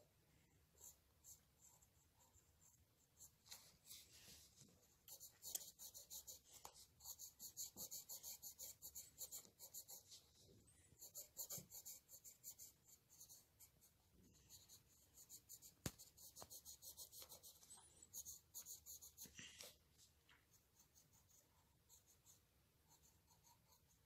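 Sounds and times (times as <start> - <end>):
pencil scratching on paper: 0.8 - 10.3, 11.0 - 19.8, 20.4 - 24.0.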